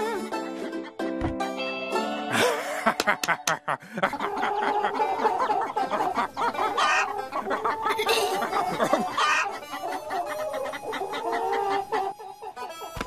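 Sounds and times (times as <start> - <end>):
cartoon hens clucking and giggling: 2.3 - 13.0.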